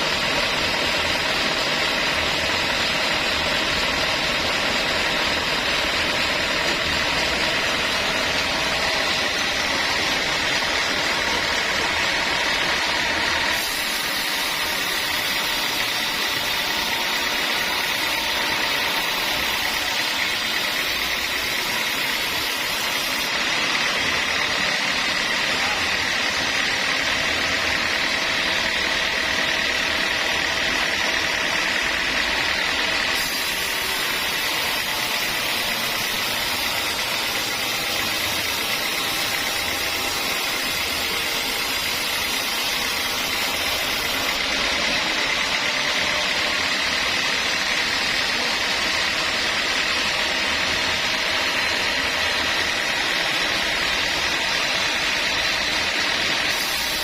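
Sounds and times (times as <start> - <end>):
sawmill saw running: 0.0 - 57.0.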